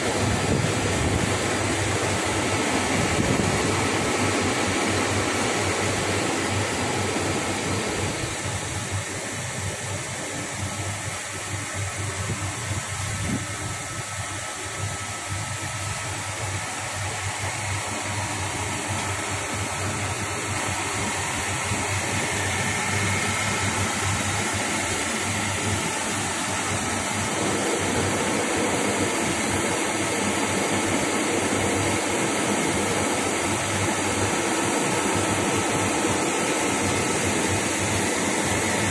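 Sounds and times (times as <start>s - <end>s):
workshop machinery running: 0.0s - 38.9s.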